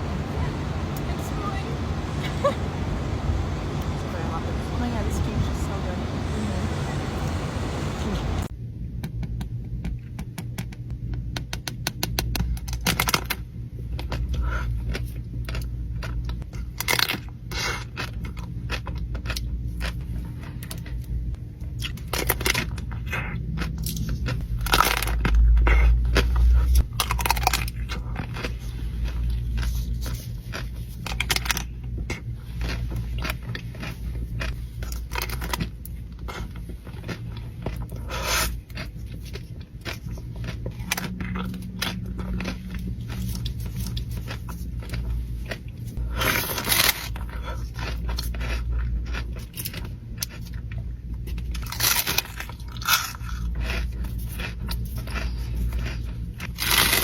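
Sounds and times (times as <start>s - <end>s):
crunchy bites and chewing: 10.1s - 57.0s.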